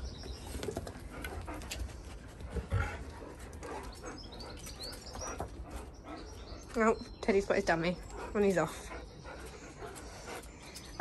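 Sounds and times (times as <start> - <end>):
dogs scuffing on brick paving: 0.0 - 11.0.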